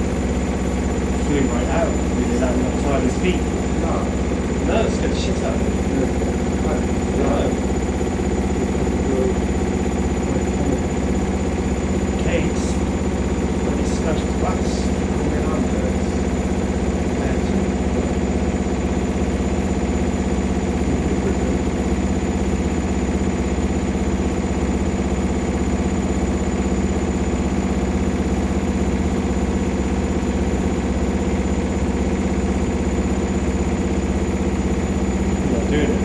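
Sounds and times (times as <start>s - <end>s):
washing machine spinning: 0.0s - 36.0s.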